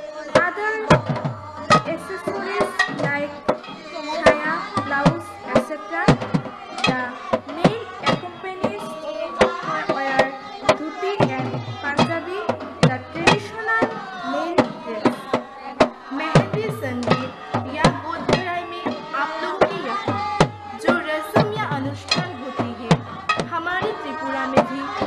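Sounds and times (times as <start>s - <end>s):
voices: 0.0s - 25.0s
hand drum rhythm: 0.1s - 25.0s.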